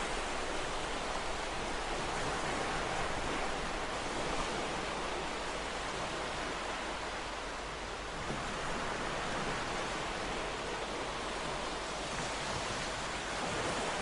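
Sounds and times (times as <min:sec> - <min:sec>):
ocean waves washing onto shore: 0:00.0 - 0:14.0.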